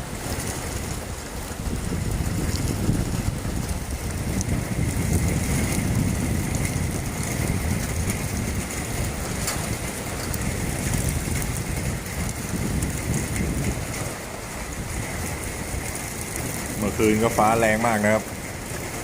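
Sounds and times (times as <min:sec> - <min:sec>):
rain hissing: 0:00.0 - 0:19.0
wind buffeting microphone: 0:00.0 - 0:19.0.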